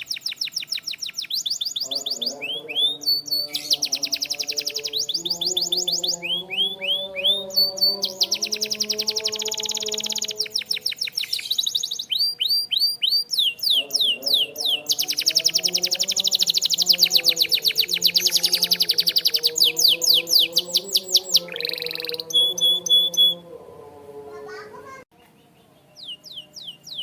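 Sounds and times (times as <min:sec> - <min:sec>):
canary singing trills: 0:00.0 - 0:23.5, 0:24.4 - 0:27.0.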